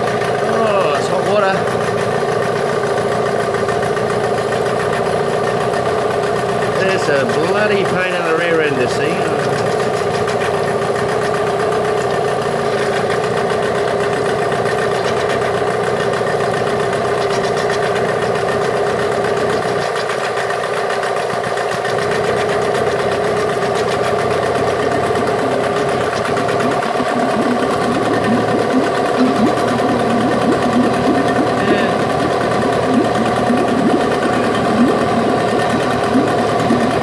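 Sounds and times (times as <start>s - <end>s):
outboard motor idling: 0.0s - 37.0s.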